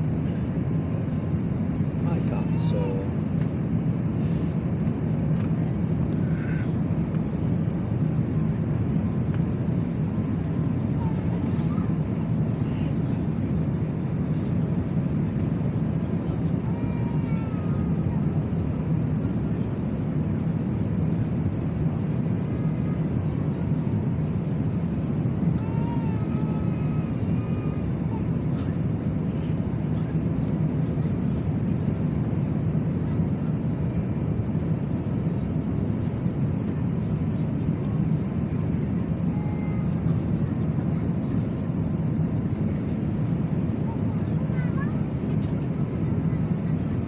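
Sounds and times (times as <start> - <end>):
jet engines rumbling: 0.0 - 47.0.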